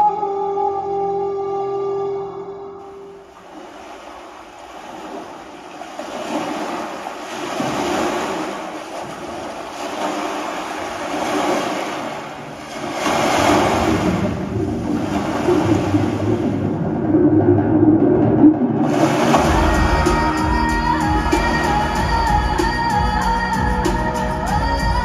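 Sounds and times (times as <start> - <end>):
ocean waves through speakers: 0.0 - 25.0.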